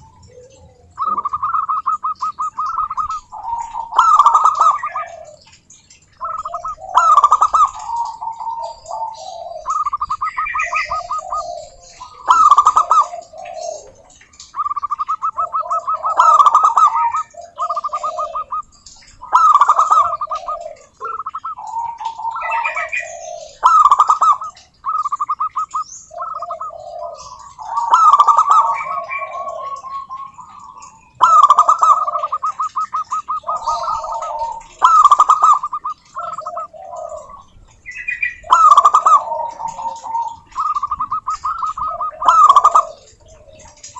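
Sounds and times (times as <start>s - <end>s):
doves cooing: 0.0s - 43.9s.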